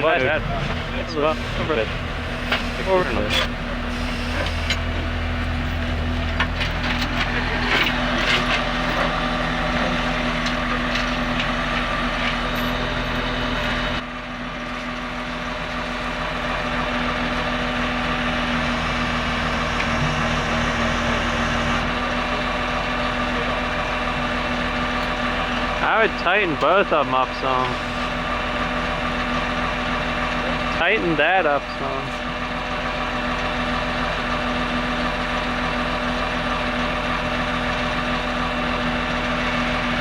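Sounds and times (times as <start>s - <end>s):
large engine idling: 0.0s - 40.0s.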